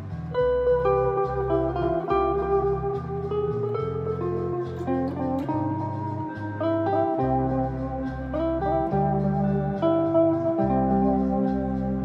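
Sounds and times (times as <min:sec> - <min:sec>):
electric guitar melody with echoes: 0:00.0 - 0:12.0
low bass notes: 0:00.0 - 0:12.0.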